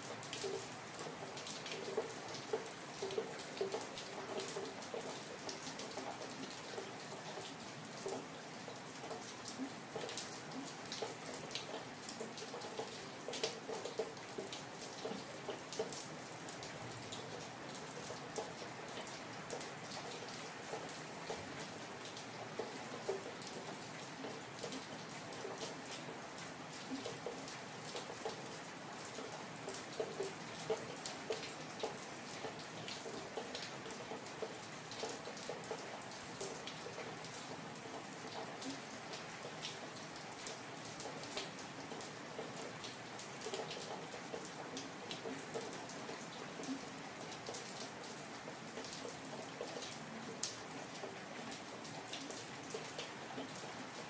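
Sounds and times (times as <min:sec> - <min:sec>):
raindrops ticking on hard surfaces: 0:00.0 - 0:54.0.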